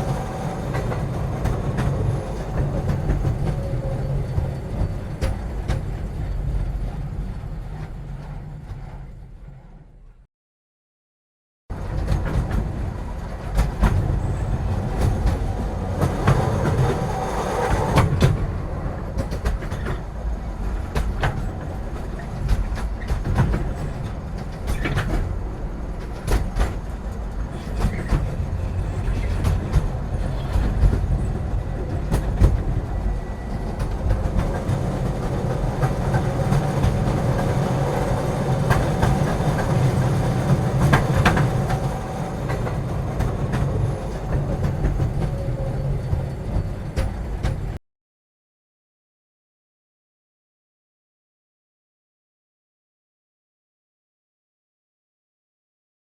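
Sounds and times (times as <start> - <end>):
wheels clicking on rails: 0.0 - 9.6, 11.7 - 47.8
train rumbling along track: 0.0 - 10.3, 11.7 - 47.8.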